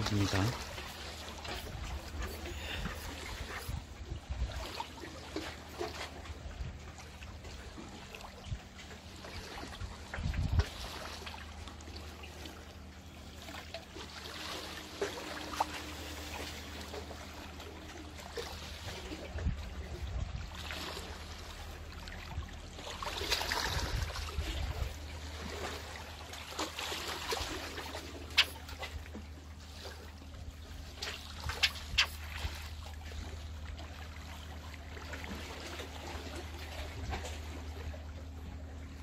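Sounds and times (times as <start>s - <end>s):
small waves washing among concrete: 0.0s - 38.6s.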